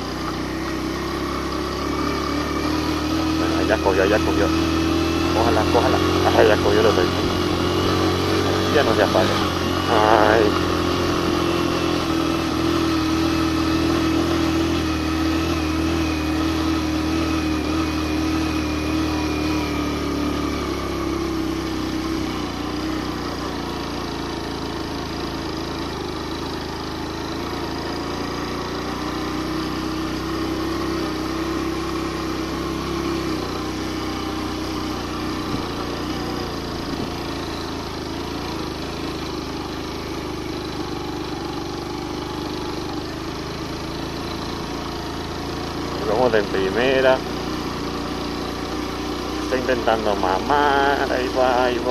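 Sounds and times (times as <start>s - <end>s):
motorcycle engine revving high: 0.0s - 51.9s.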